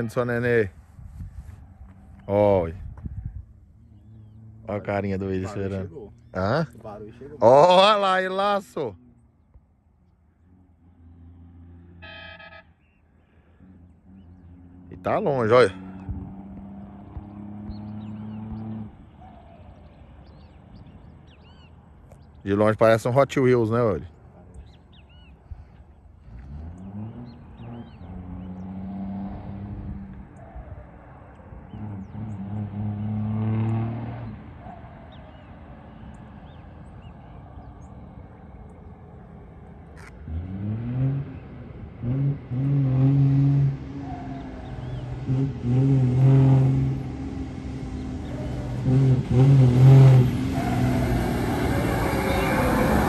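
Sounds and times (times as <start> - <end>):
diesel truck accelerating: 1.6 - 53.0.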